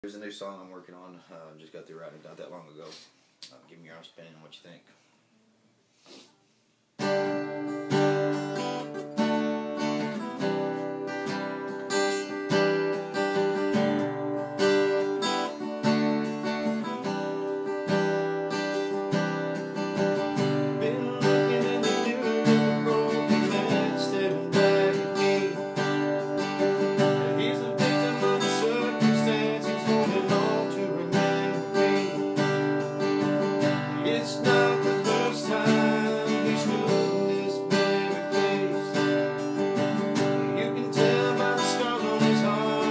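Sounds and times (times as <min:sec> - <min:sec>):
acoustic guitar strumming chords: 0:07.0 - 0:42.9.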